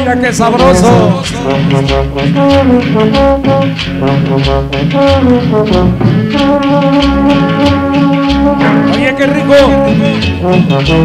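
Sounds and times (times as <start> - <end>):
cumbia music with brass horns: 0.0 - 11.0.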